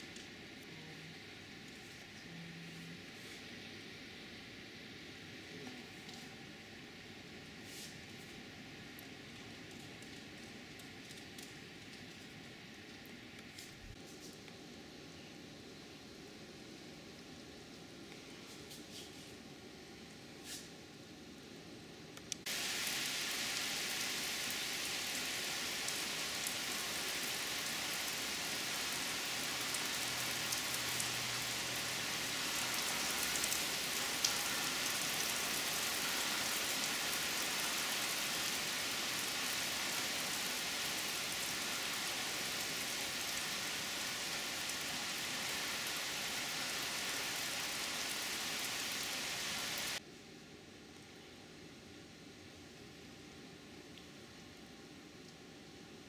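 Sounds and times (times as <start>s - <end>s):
rain hissing: 0.0s - 20.9s, 22.4s - 50.0s.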